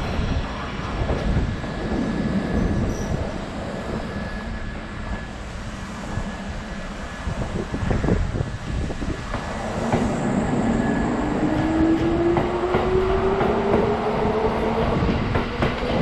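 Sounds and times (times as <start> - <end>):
electric train low rumble: 0.0 - 16.0.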